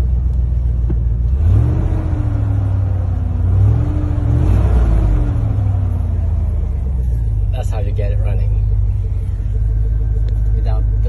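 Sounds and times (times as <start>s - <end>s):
pickup engine revving: 0.0s - 11.0s.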